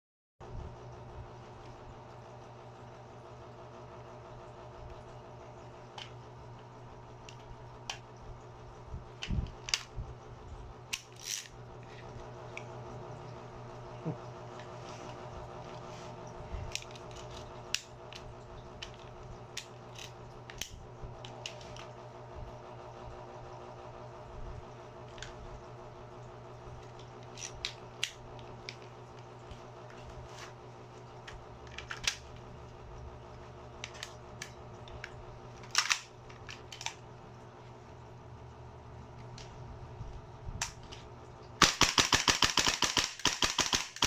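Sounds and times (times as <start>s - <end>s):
steady hum: 0.4s - 44.0s.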